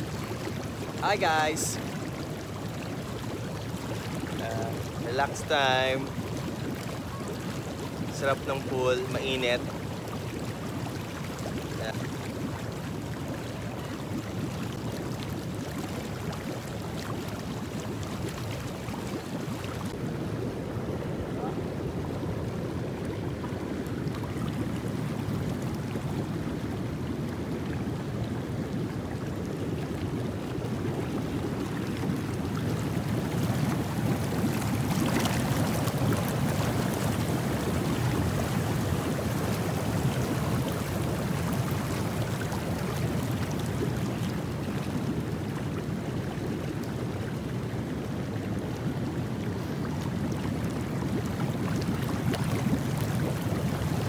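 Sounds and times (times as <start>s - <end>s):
jacuzzi jets hissing and bubbling: 0.0s - 54.0s
swimming pool water rushing: 0.0s - 54.0s.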